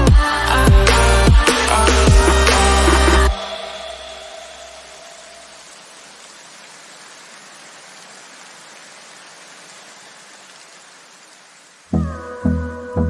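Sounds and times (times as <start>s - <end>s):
soft hiss of noise: 1.0s - 12.0s.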